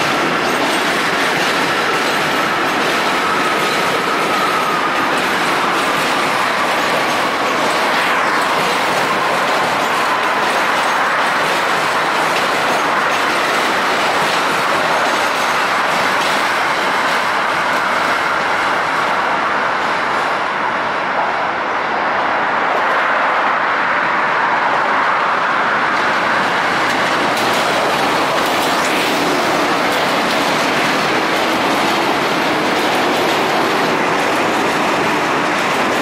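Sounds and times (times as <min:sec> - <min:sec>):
steel wheels on rail: 0:00.0 - 0:36.0.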